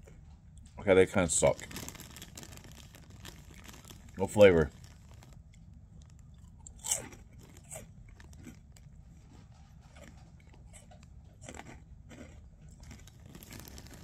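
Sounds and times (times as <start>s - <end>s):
person chewing crunchy snacks: 1.4s - 14.0s.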